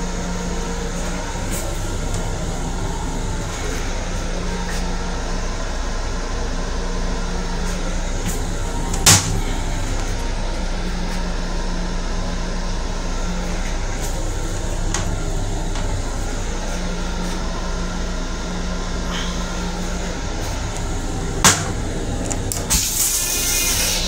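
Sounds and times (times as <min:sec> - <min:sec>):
railcar hum: 0:00.0 - 0:24.0.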